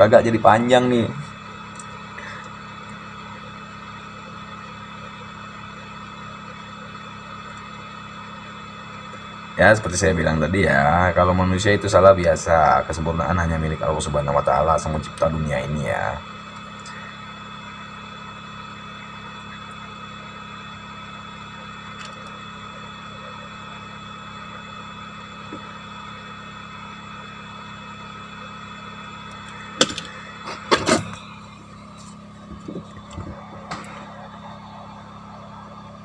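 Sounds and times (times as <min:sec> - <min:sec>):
blower fan humming: 0:00.0 - 0:36.0.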